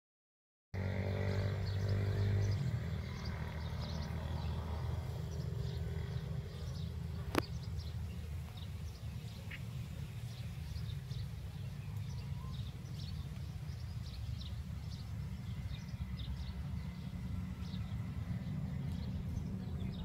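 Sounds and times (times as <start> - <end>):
small birds chirping: 0.8 - 20.0.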